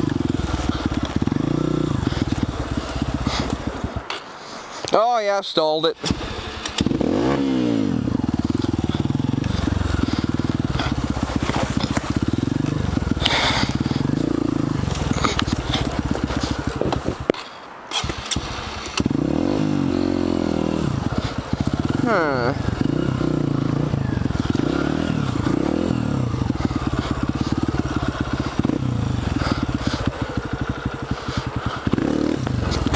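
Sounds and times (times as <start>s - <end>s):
dirt bike engine revving: 0.0s - 4.2s, 6.0s - 17.3s, 17.9s - 32.9s.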